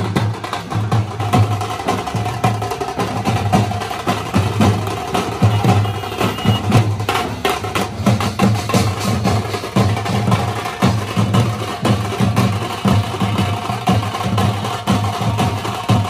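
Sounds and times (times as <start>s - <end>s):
barrel drums beaten: 0.0s - 16.0s.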